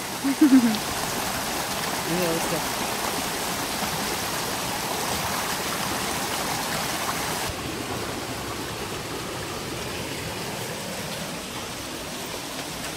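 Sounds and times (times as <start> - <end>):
water rushing over rocks: 0.0 - 12.9.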